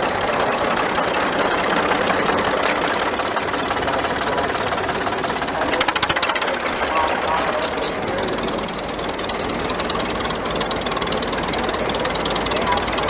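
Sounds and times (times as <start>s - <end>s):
crawler tractor engine running: 0.0s - 13.0s.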